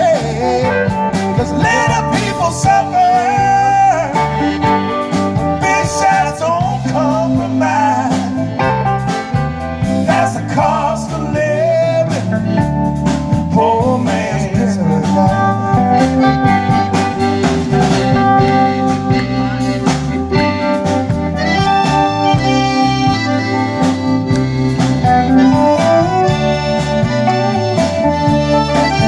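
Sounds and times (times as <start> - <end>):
accordion: 0.0 - 29.0
bass guitar: 0.0 - 29.0
drum kit: 0.0 - 29.0
electric guitar lead: 0.0 - 29.0.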